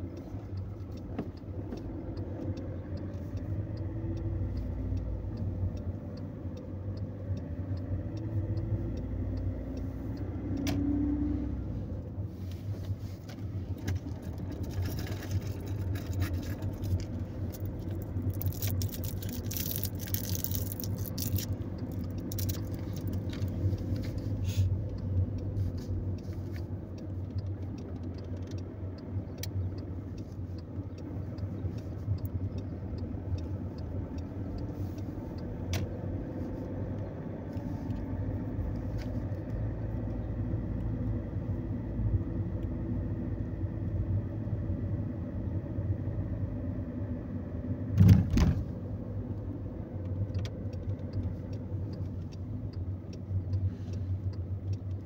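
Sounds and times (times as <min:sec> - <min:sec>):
engine and tyre hum: 0:00.0 - 0:55.0.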